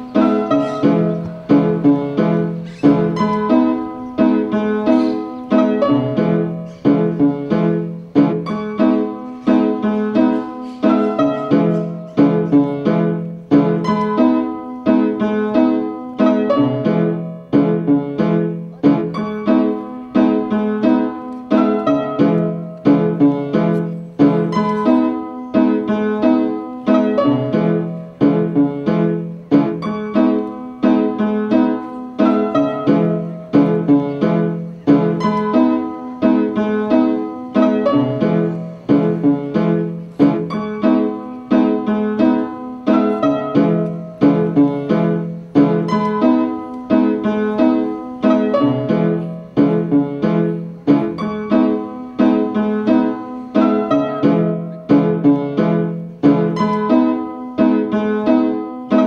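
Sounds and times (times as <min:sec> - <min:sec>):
piano background music: 0:00.0 - 0:59.0.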